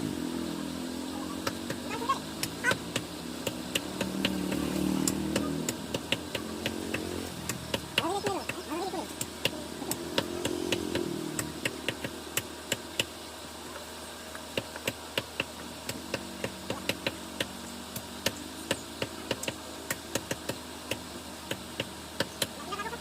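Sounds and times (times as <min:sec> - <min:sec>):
cleaver chopping chicken: 0:01.3 - 0:13.1, 0:14.4 - 0:22.6.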